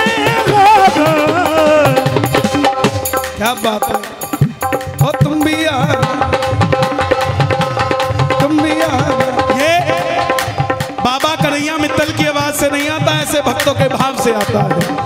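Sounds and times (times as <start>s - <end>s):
sustained instrumental notes: 0.0s - 13.4s
hand drum rhythm: 0.0s - 15.0s.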